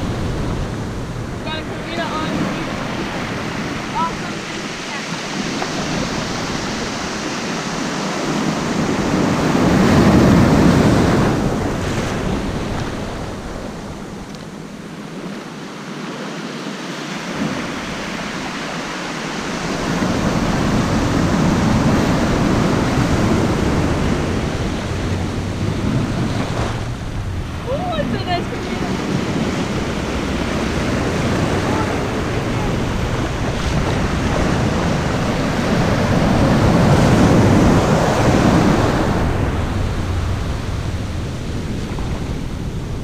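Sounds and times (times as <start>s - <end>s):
ocean surf breaking: 0.0s - 43.0s.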